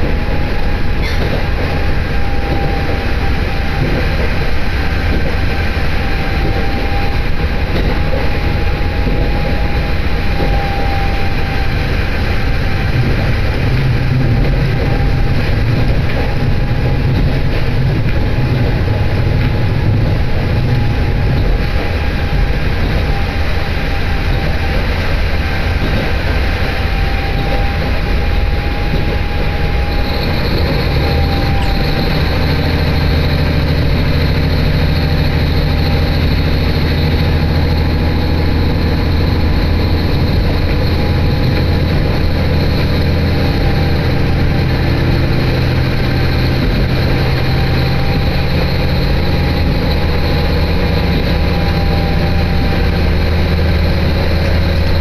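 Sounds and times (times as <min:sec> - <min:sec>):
constant high whine: 0:00.0 - 0:55.0
train engine and wheel rumble: 0:00.0 - 0:55.0.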